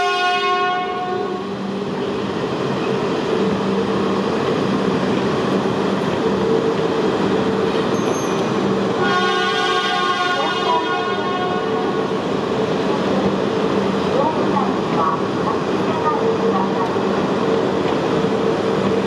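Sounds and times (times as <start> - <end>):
train cars rolling on rails: 0.0 - 19.0.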